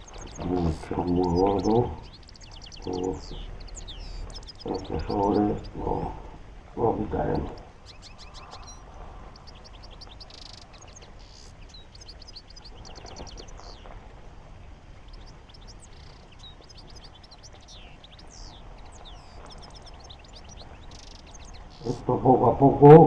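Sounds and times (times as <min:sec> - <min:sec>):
faint low hum: 0:00.0 - 0:23.0
small birds chirping: 0:00.0 - 0:23.0.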